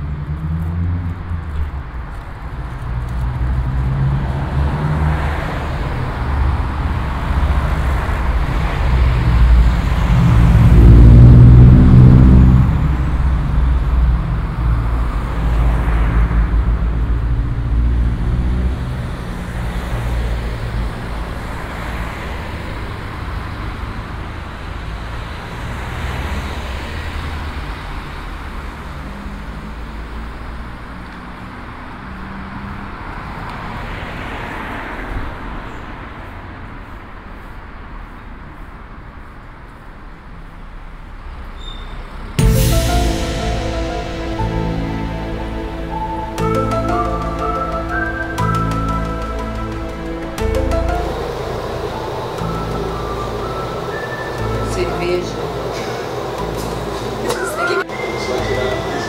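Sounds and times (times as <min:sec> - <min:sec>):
bus engines rumbling: 0:00.0 - 0:59.0
bus passing: 0:00.0 - 0:59.0.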